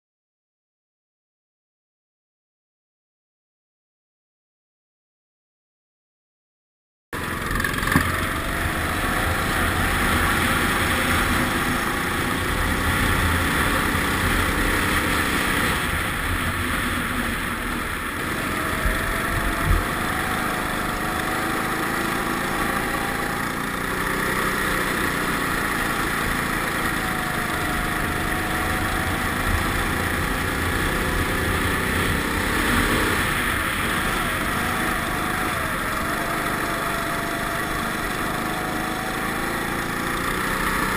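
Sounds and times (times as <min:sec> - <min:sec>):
go-kart engine running hard: 0:07.2 - 0:40.9.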